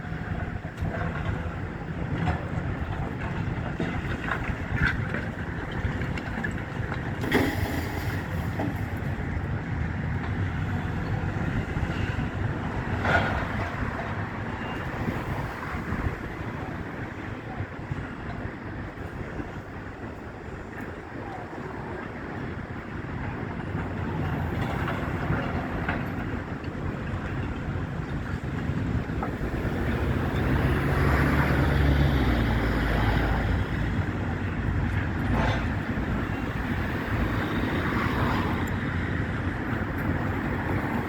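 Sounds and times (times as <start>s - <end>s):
excavator engine rumble: 0.0s - 41.0s
wind: 0.0s - 41.0s.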